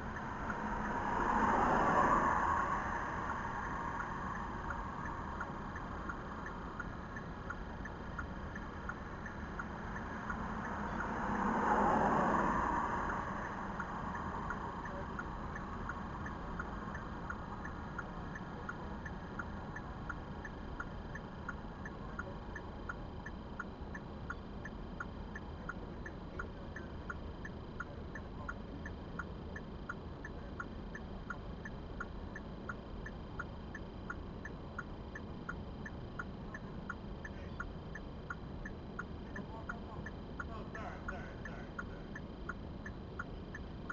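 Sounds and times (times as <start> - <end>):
turn signal clicking: 2.3 - 11.6, 12.5 - 43.9.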